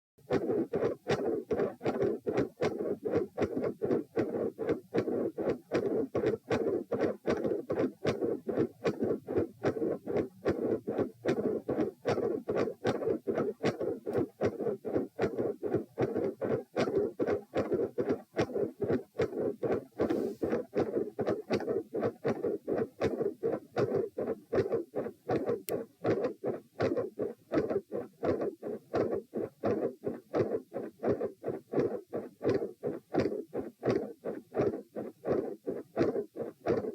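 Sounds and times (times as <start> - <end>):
heartbeat: 0.2 - 36.9.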